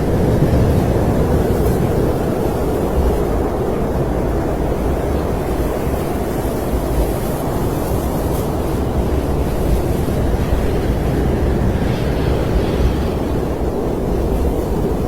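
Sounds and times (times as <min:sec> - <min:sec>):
low rushing wind: 0:00.0 - 0:15.0.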